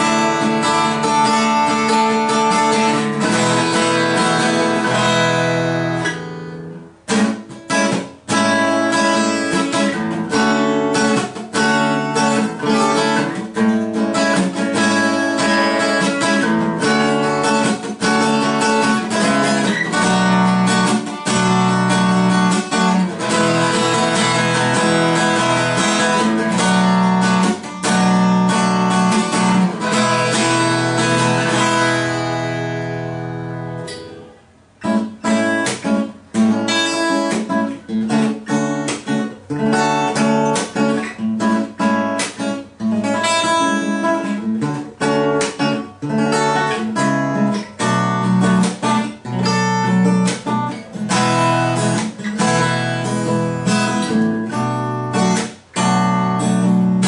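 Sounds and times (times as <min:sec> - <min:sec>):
acoustic guitar strumming chords: 0:00.0 - 0:57.0.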